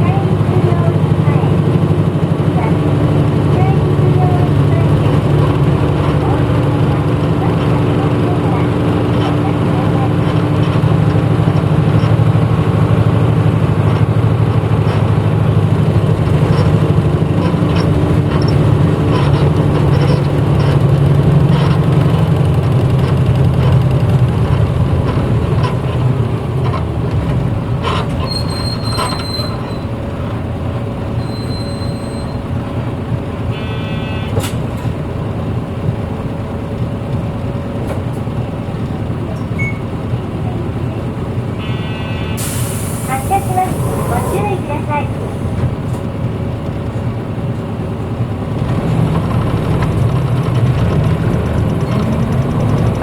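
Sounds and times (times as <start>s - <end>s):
bus diesel engine humming: 0.0s - 53.0s
road and body noise: 0.0s - 53.0s.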